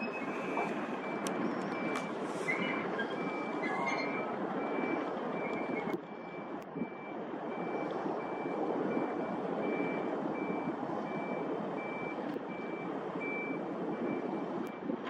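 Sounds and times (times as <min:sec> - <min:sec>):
reversing alarm beeping: 0:00.0 - 0:14.9.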